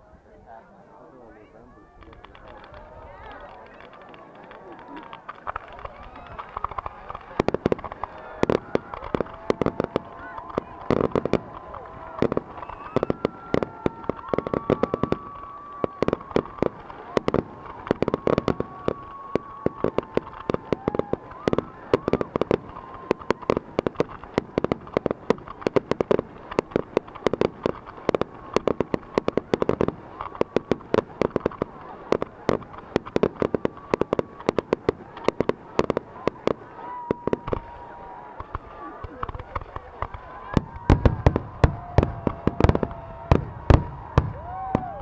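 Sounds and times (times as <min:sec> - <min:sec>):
fireworks bangs: 0:02.0 - 0:45.0.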